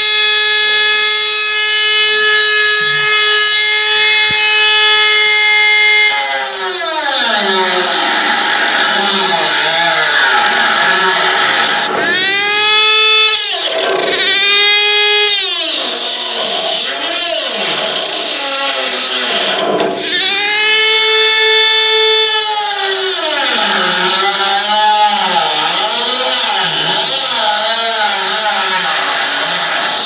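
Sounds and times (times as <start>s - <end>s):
power tool cutting sheet metal: 0.0s - 30.0s.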